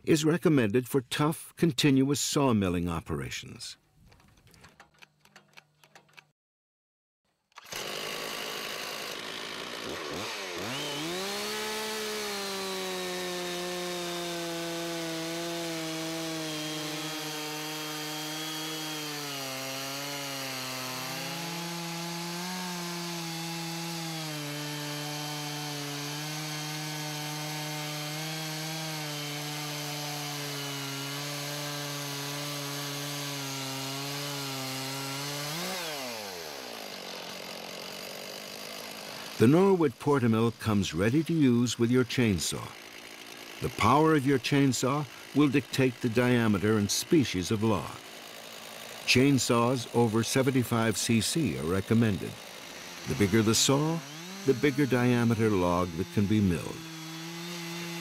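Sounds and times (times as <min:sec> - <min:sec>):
chainsaw ripping through log: 0:07.5 - 0:58.0.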